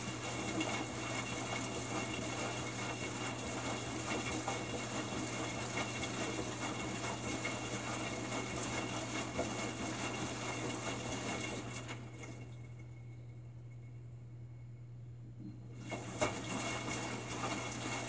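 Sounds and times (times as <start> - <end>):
washing machine motor hum: 0.0 - 18.0
water swishing and splashing: 0.1 - 12.6, 15.8 - 18.0.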